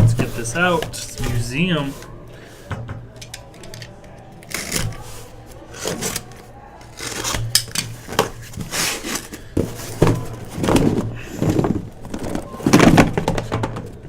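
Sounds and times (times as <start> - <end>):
packaging scraping and rustling: 0.0 - 14.0.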